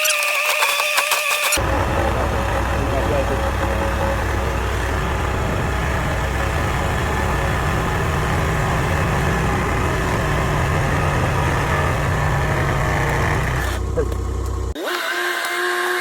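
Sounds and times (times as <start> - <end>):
skid steer engine running: 1.5 - 14.8.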